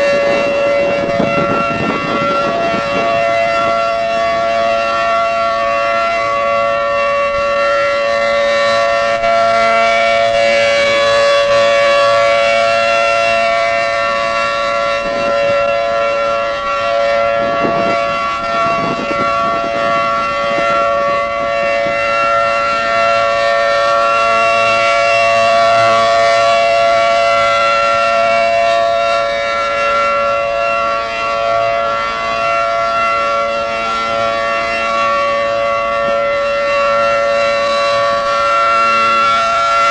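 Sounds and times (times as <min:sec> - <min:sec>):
two-tone siren: 0:00.0 - 0:39.9.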